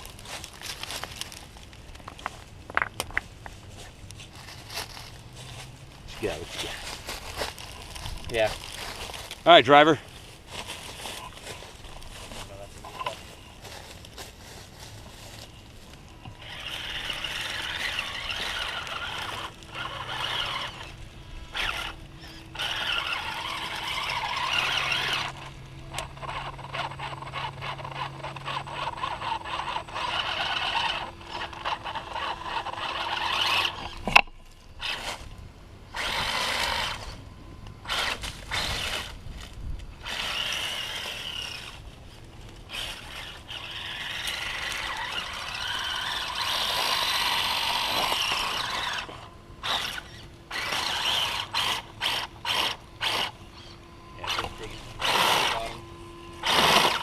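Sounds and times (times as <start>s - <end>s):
electric motor and drivetrain whining: 0.0s - 57.0s.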